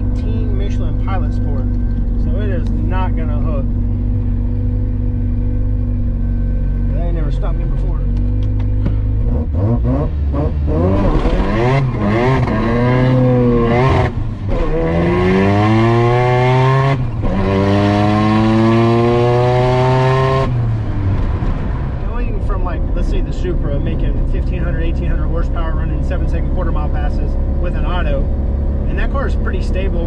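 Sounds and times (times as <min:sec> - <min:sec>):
rotary engine accelerating: 0:00.0 - 0:30.0.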